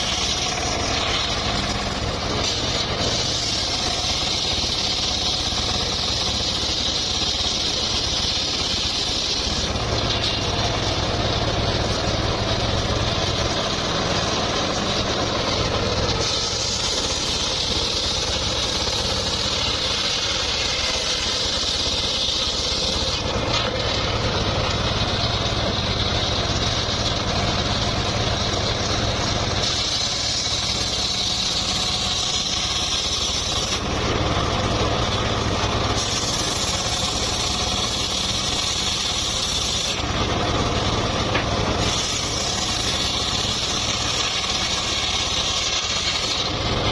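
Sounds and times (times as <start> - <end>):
saw cutting timber: 0.0 - 46.9
saw engine hum: 0.0 - 46.9.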